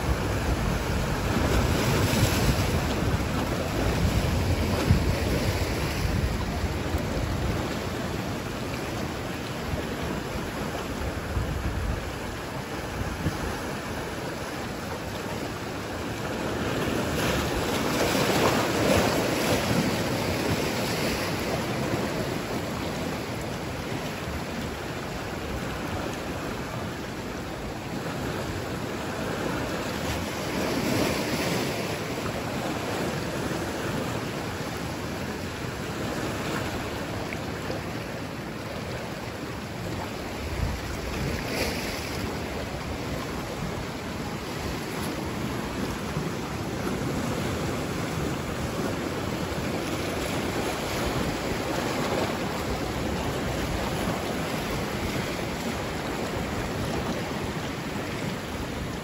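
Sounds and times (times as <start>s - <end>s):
surf washing over rocks: 0.0s - 59.0s.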